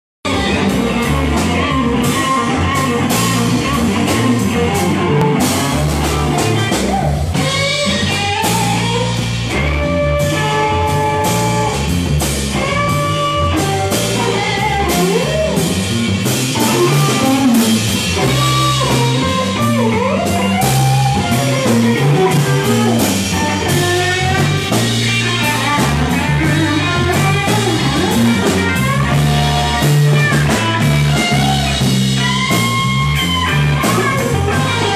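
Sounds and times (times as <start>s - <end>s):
drum kit: 0.2s - 34.9s
electric bass: 0.2s - 34.9s
electric guitar lead: 0.3s - 34.9s.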